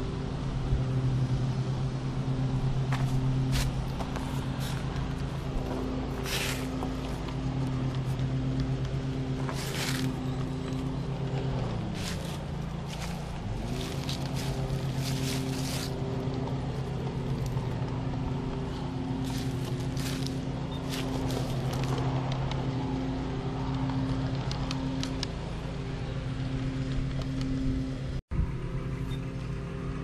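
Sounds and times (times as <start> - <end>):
wheels clicking on rails: 0.0 - 28.2.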